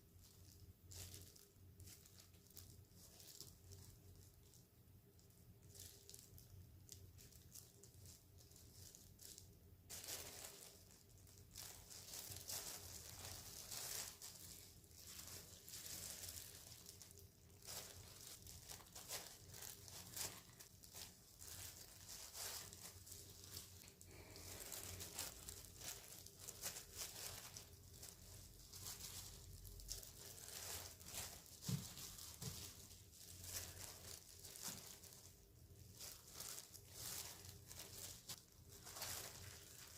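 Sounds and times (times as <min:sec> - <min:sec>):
crinkling and rustling: 0:00.0 - 0:39.9.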